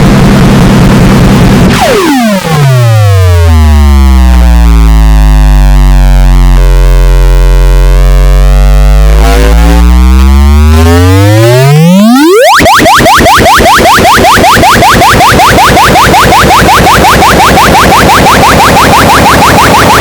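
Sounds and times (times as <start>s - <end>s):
synthesized bass drone sweeping: 0.0s - 20.0s.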